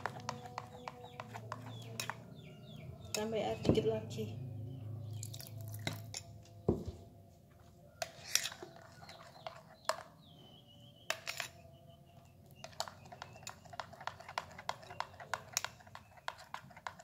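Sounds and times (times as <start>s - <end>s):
spoon stirring batter in bowl: 0.0s - 4.1s, 5.0s - 6.4s, 7.9s - 17.0s.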